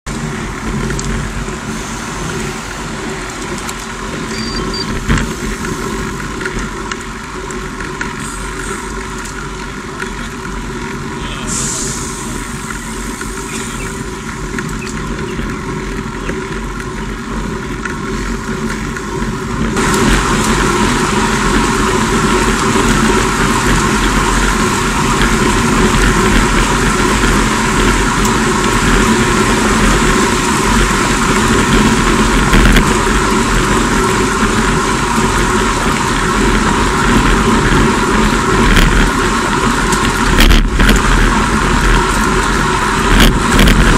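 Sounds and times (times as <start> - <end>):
bike tyres on road: 0.0 - 43.9
wind noise: 0.1 - 43.9.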